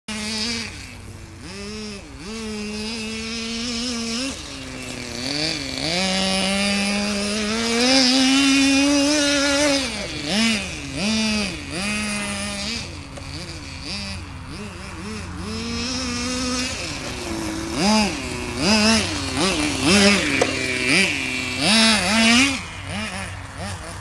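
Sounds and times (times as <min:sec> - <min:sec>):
small two-stroke engine revving: 0:00.1 - 0:24.0.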